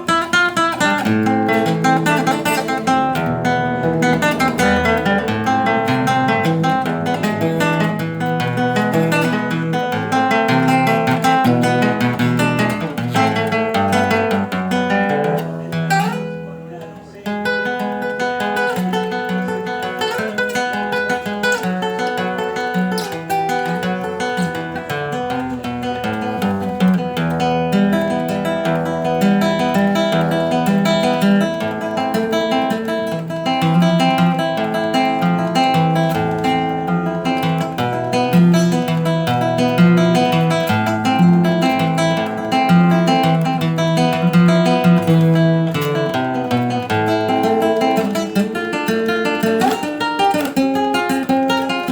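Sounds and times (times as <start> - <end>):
acoustic guitar instrumental: 0.0 - 51.9.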